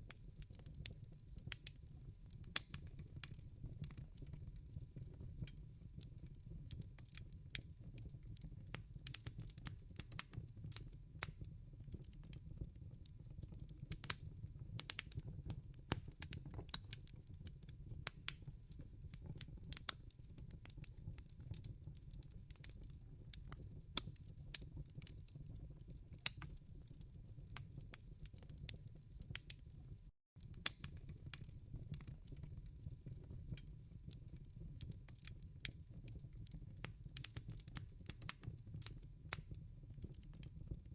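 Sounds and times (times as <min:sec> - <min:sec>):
fire rumbling in fireplace: 0:00.1 - 0:40.9
logs crackling and popping: 0:00.1 - 0:40.9.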